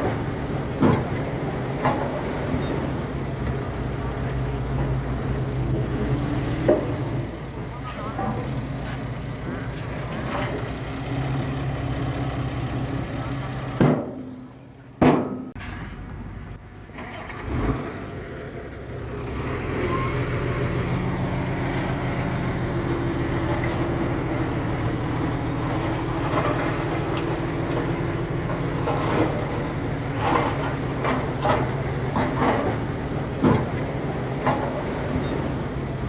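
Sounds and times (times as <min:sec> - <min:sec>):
heavy machinery diesel engine: 0:00.0 - 0:36.0.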